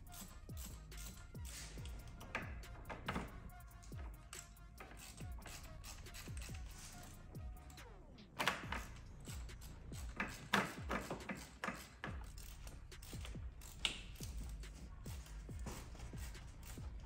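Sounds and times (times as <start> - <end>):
background music with bass beat: 0.0 - 17.0
ratchet wrench clicking: 0.0 - 17.0.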